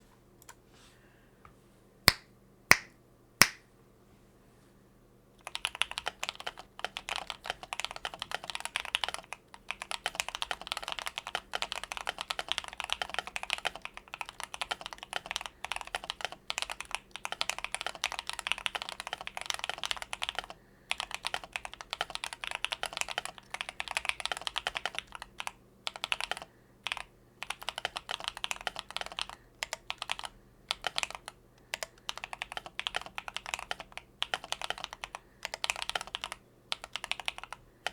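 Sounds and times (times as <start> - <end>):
mechanical keyboard typing: 5.4 - 37.9.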